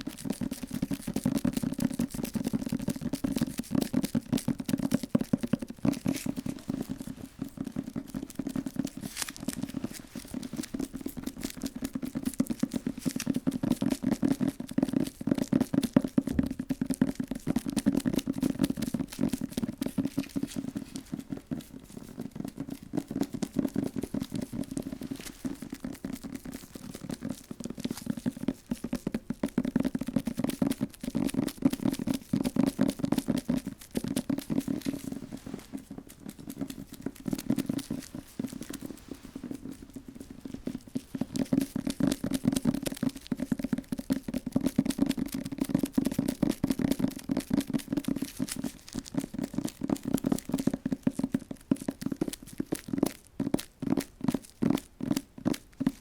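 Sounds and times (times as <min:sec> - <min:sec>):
gentle tapping on an object: 0:00.0 - 0:56.0.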